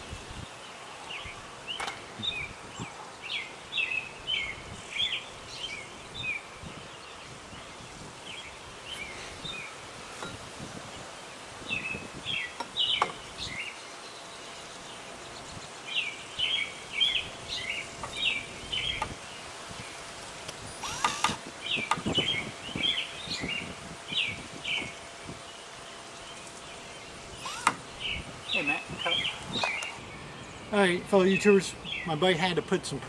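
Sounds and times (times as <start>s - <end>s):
outdoor background noise: 0.0s - 33.0s
songbird singing: 0.0s - 33.0s.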